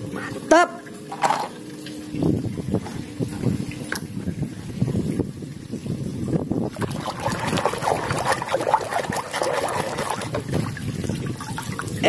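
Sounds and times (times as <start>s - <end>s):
water sloshing in plastic basin: 0.8s - 5.2s, 5.8s - 12.0s.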